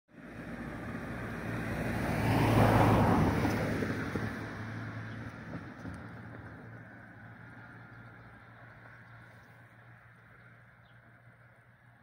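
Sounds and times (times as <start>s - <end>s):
car passing by: 0.1s - 12.0s.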